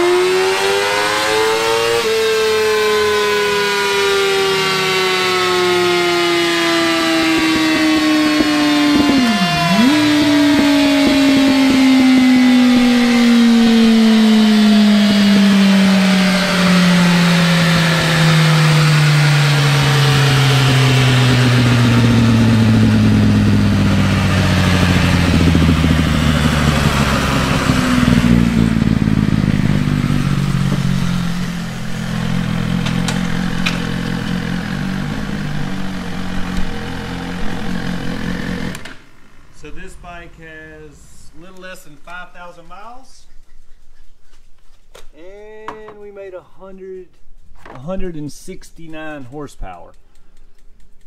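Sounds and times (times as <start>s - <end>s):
motorcycle engine winding down: 0.0s - 41.2s.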